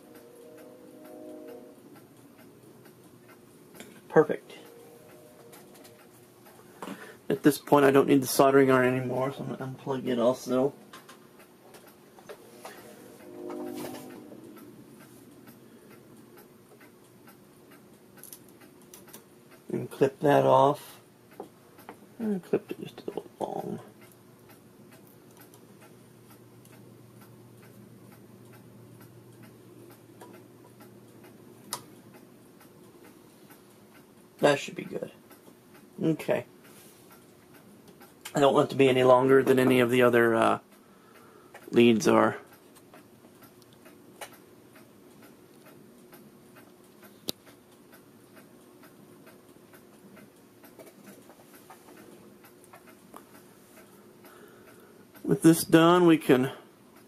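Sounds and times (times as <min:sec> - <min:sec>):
faint regular ticking: 0:00.0 - 0:57.0
low steady hum: 0:00.0 - 0:57.0.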